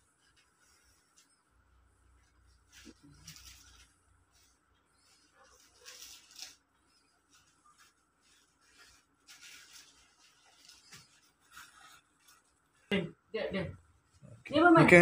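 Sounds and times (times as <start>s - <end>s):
plastic gift wrap rustling: 0.0s - 13.0s.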